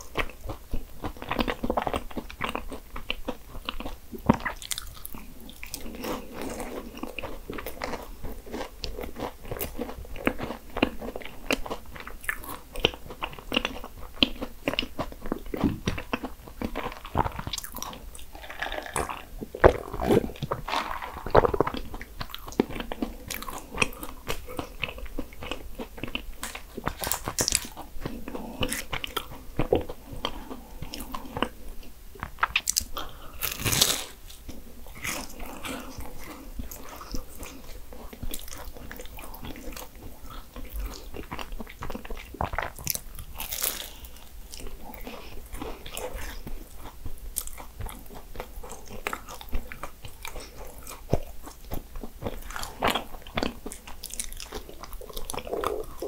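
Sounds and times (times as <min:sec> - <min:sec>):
soft chewing: 0:00.0 - 0:56.0
pastry crunching when bitten: 0:00.1 - 0:29.7, 0:32.2 - 0:56.0.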